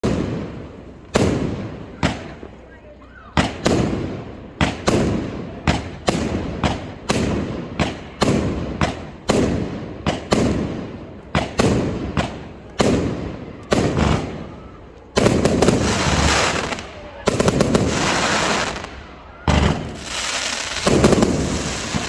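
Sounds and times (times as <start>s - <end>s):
dense rapid firework crackling: 0.0s - 2.7s, 3.4s - 22.0s
fireworks bangs with echo: 0.0s - 22.0s.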